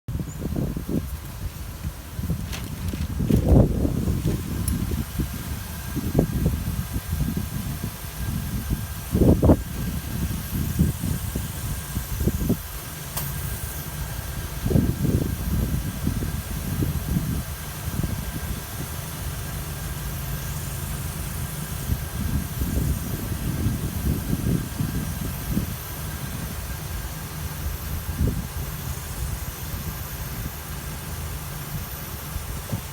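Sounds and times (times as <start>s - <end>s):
car engine idling: 0.1s - 32.9s.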